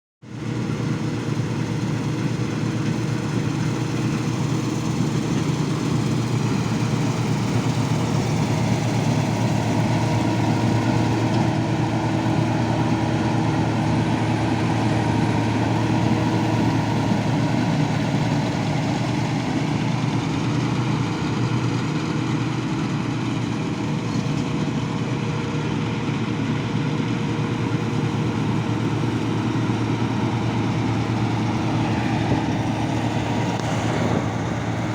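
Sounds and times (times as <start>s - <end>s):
combine harvester engine drone: 0.2s - 34.9s.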